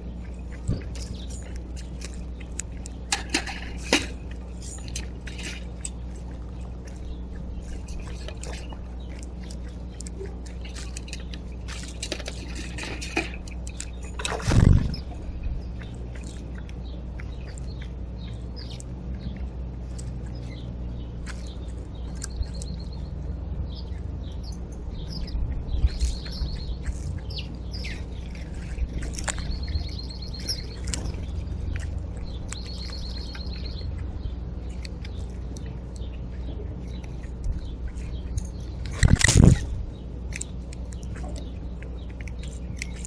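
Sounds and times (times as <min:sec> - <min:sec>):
buzzy bird trills: 0:00.0 - 0:43.0
small birds chirping: 0:00.0 - 0:43.0
steady low rumble: 0:00.0 - 0:43.0.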